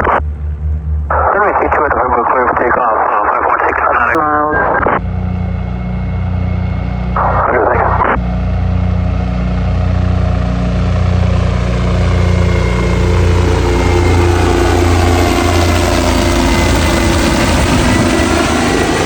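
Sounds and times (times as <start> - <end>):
propeller airplane engine droning: 0.0 - 19.0.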